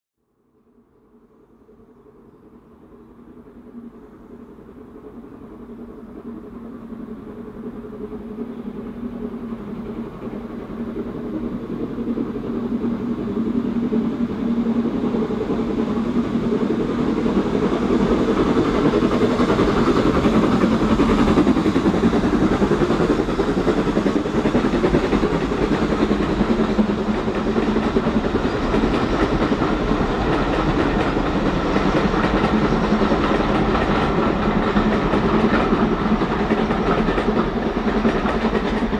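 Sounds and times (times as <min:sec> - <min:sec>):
passenger train approaching: 0:00.4 - 0:38.9.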